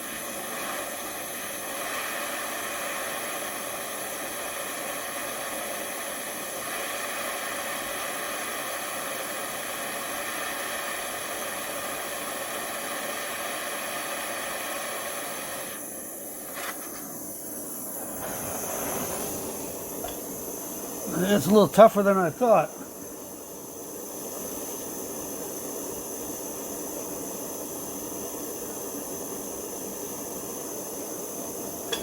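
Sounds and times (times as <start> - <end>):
gas flame hissing: 0.0 - 32.0.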